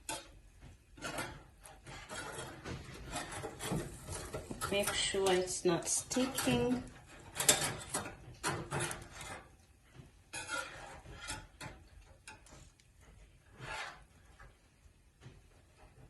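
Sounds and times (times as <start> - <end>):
utensil scraping a pan: 0.0 - 16.0.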